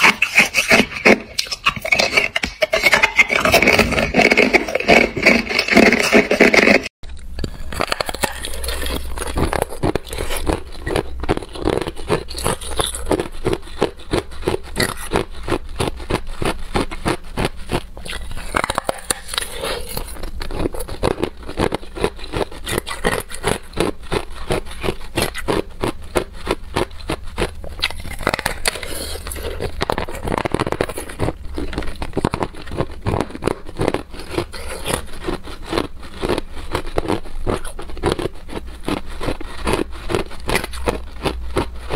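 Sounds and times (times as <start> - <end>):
ice crunching while chewed: 0.0 - 41.9.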